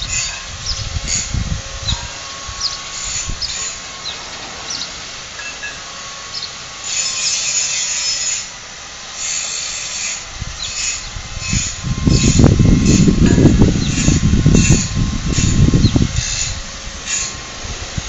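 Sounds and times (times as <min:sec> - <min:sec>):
rasping scraping strokes: 0:00.0 - 0:06.2, 0:06.8 - 0:08.5, 0:09.2 - 0:17.6.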